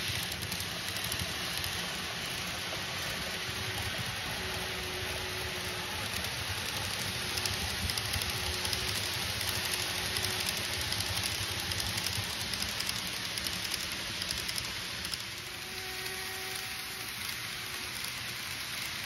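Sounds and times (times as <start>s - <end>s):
model train wheels rattling on rail: 0.0s - 19.0s.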